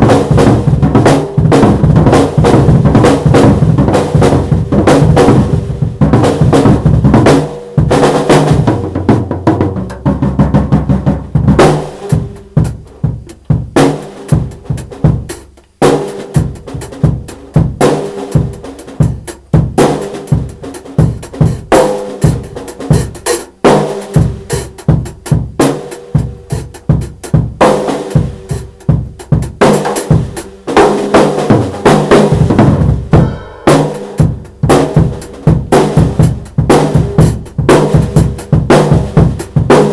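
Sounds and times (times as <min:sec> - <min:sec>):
drumming with ringing tones: 0:00.0 - 0:39.9.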